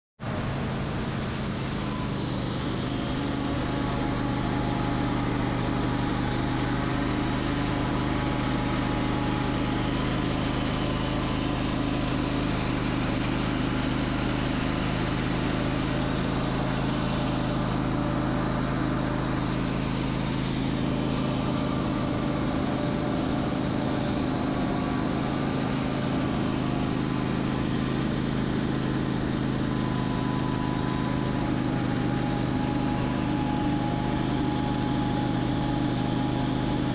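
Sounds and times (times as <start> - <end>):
sawmill engine running: 0.2 - 36.9.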